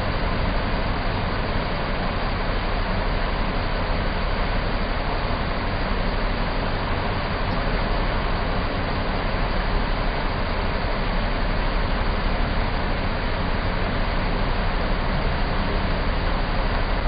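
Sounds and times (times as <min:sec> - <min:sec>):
low rumble and hiss on ship deck: 0:00.0 - 0:17.0.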